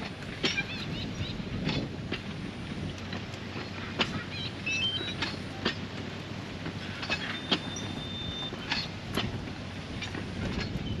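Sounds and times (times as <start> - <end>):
train rumbling past: 0.0 - 11.0
wheels clicking and squeaking: 0.0 - 11.0.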